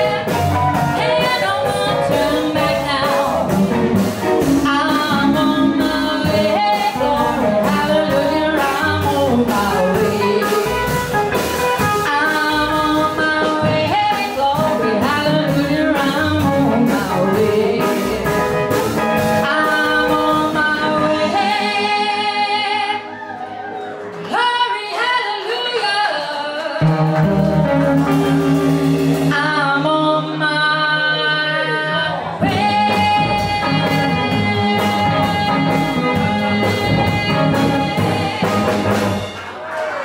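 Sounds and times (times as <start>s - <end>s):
woman singing: 0.0s - 11.0s, 11.9s - 23.1s, 24.3s - 28.4s, 29.1s - 39.1s
drum kit with cymbals: 0.0s - 22.2s, 26.8s - 30.4s, 32.4s - 39.6s
electric guitar: 0.0s - 25.0s, 26.6s - 39.5s.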